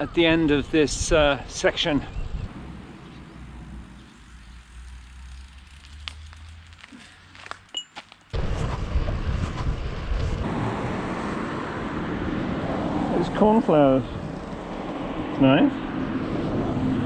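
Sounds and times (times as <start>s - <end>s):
bicycle road noise rumble: 0.0s - 17.0s.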